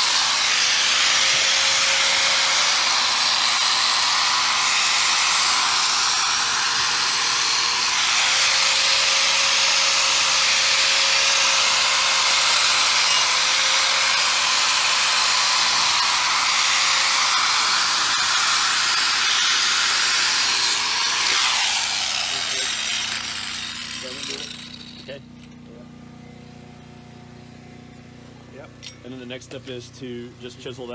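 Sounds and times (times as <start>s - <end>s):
angle grinder cutting block: 0.0s - 25.6s.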